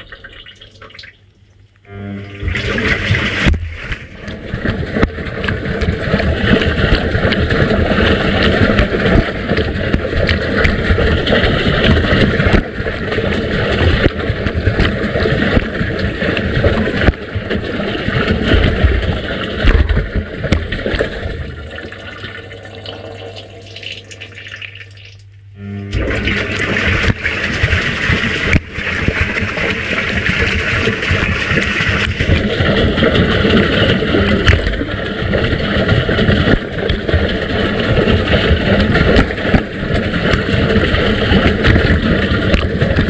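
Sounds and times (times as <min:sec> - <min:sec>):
washing machine water sloshing: 0:00.0 - 0:43.0.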